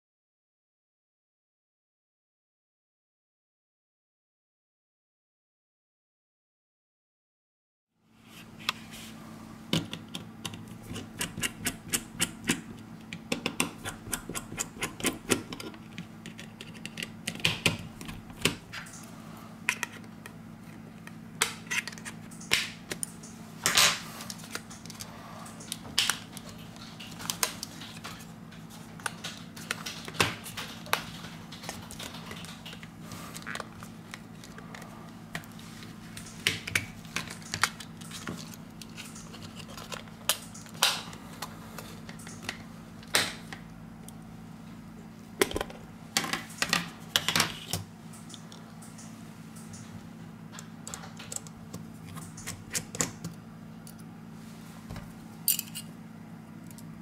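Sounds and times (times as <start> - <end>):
steady low hum: 8.0 - 57.0.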